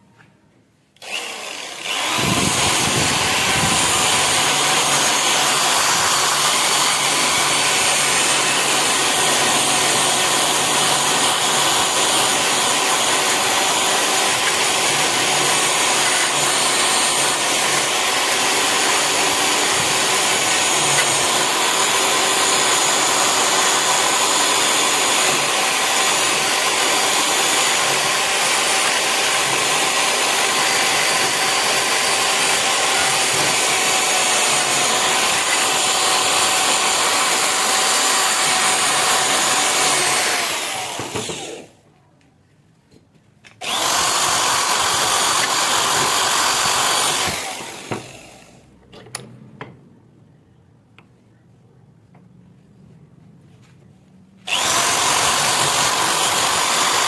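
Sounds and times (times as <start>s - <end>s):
power tool motor whine: 1.0s - 41.8s, 43.6s - 48.7s, 54.4s - 57.0s.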